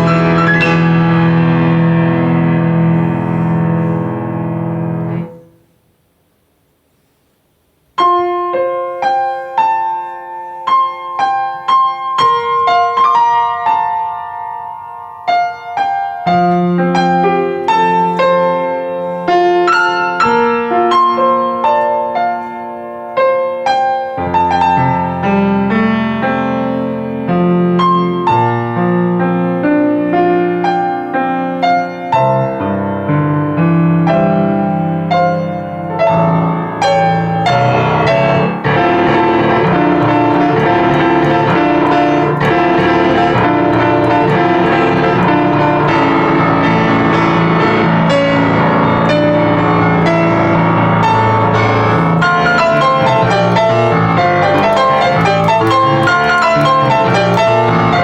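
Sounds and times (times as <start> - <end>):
lively piano piece: 0.0 - 5.8, 7.9 - 58.0.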